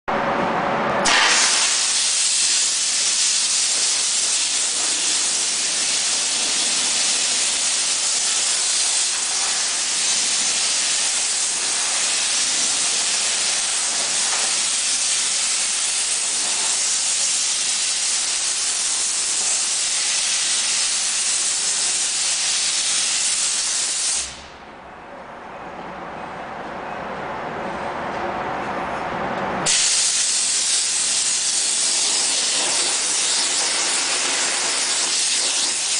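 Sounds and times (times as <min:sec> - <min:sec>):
steam cleaner hissing: 0:01.0 - 0:24.5, 0:29.6 - 0:35.9.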